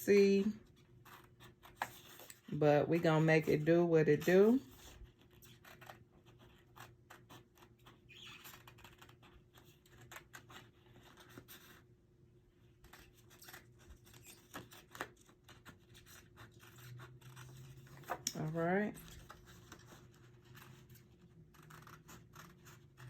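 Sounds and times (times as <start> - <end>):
scissors cutting cardstock: 1.0 - 11.8, 12.8 - 23.0.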